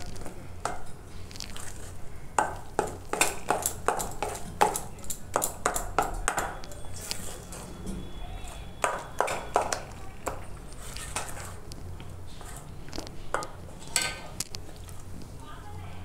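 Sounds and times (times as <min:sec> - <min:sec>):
metal spoon beating batter in bowl: 0:00.0 - 0:15.1.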